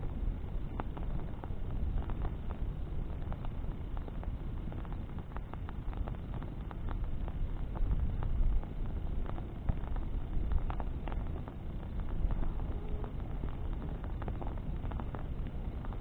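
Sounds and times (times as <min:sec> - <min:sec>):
bonfire crackling and popping: 0:00.0 - 0:16.0
low rumble of fire: 0:00.0 - 0:16.0.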